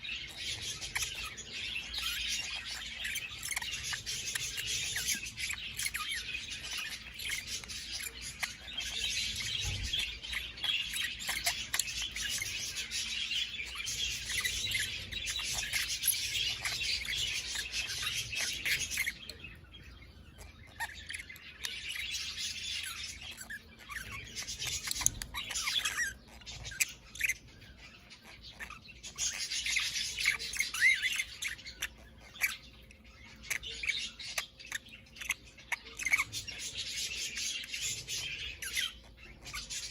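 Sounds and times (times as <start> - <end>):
budgerigars warbling and chirping: 0.0 - 39.9.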